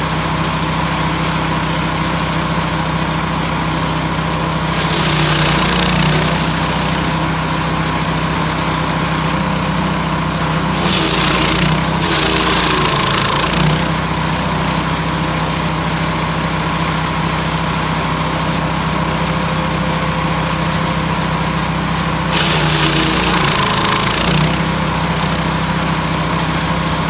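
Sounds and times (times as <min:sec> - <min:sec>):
wood chipper engine running: 0:00.0 - 0:27.0.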